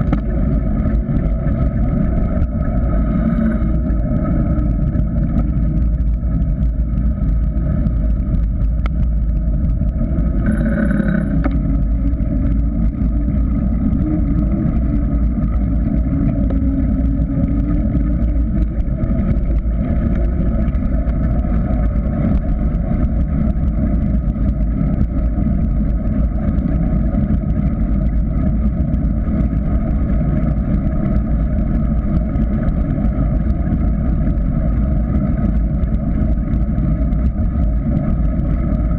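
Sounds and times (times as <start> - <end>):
wind and tyre rumble: 0.0 - 38.9.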